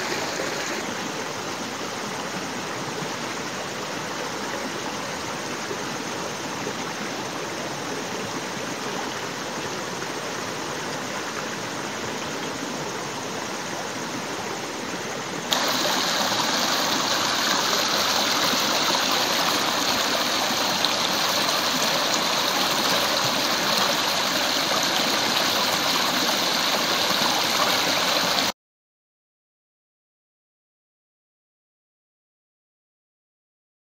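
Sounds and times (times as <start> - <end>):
stream water flowing: 0.0 - 28.5.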